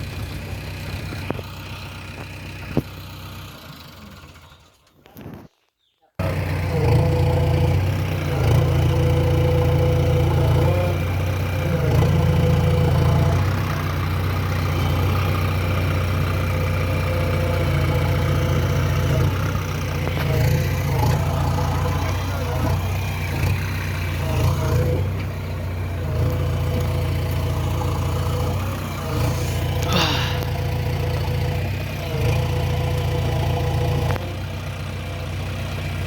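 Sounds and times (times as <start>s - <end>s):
heavy diesel engine running: 0.0s - 4.9s, 6.2s - 36.0s.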